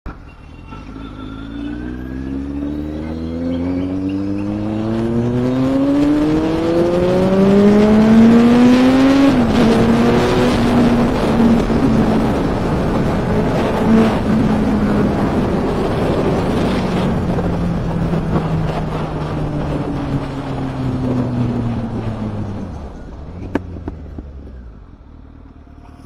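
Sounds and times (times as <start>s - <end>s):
road and wind rush: 0.1s - 26.0s
motorcycle engine accelerating: 0.5s - 26.0s.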